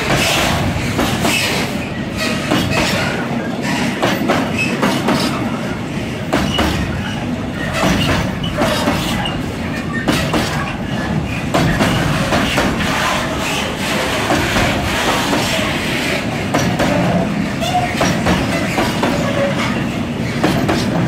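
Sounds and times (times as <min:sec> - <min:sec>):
wheels clacking over rail joints: 0:00.0 - 0:05.5, 0:06.2 - 0:15.7, 0:16.3 - 0:21.0
wheels rumbling on rail: 0:00.0 - 0:21.0.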